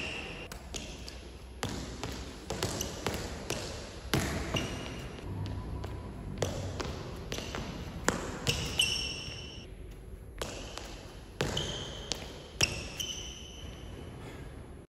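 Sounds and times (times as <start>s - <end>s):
room hum: 0.0s - 14.9s.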